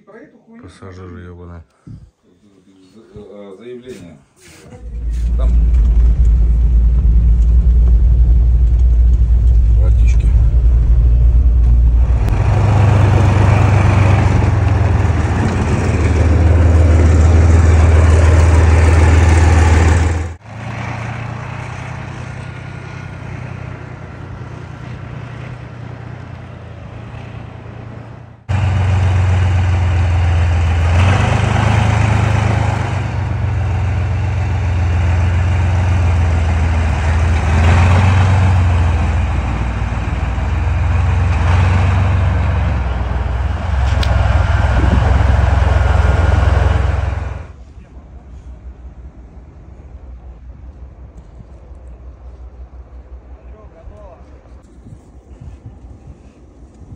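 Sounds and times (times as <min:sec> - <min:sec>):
road noise: 0:01.9 - 0:56.9
vehicle engine drone: 0:04.7 - 0:56.9.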